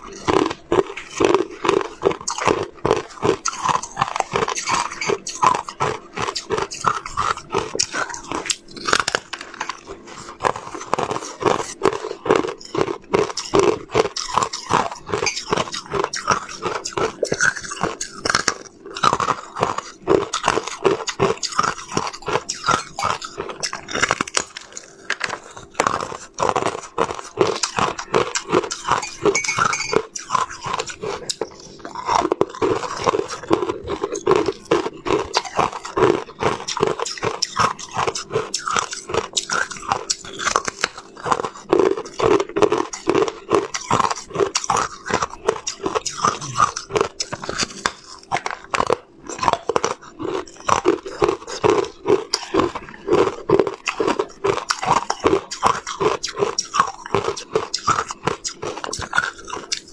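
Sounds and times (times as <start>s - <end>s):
crunching ice between teeth: 0.0s - 59.9s.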